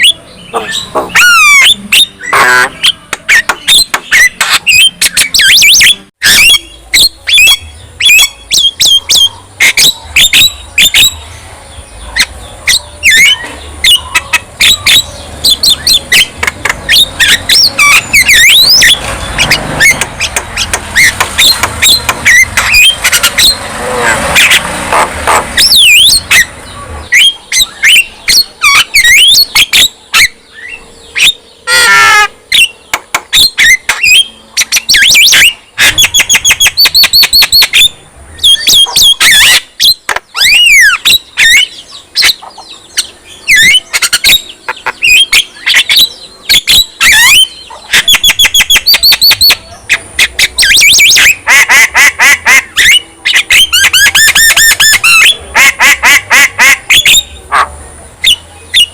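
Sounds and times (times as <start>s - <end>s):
myna bird singing: 0.0s - 58.9s.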